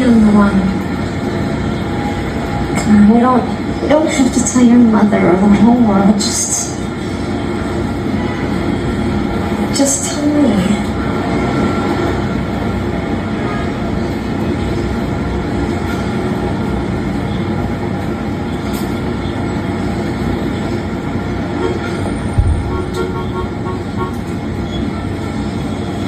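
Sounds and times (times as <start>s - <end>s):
train rumbling and rattling: 0.0s - 26.0s.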